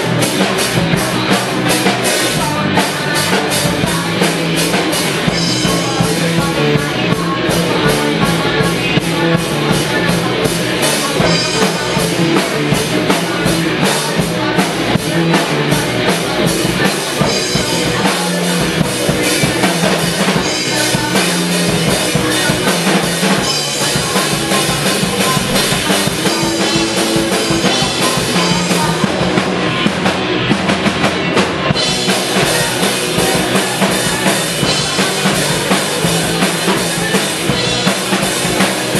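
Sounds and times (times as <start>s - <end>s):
drum kit beat: 0.0s - 38.9s
live rock band playing: 0.0s - 38.9s.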